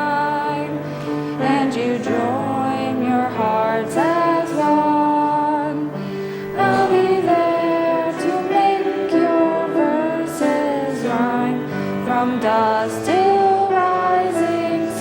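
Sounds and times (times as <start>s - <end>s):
women singing a hymn: 0.0s - 15.0s.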